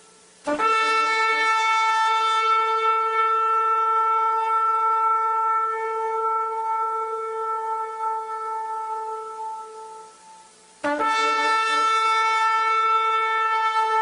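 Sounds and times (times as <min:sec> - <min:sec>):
shofar blast: 0:00.0 - 0:14.0.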